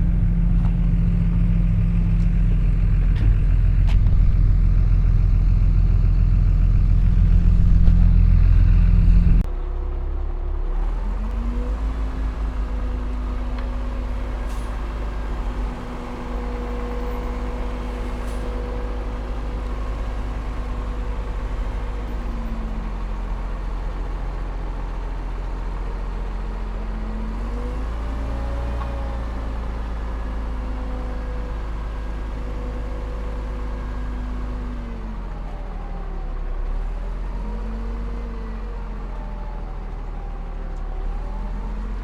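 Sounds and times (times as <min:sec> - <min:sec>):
heavy diesel engine rumbling: 0:00.0 - 0:42.0.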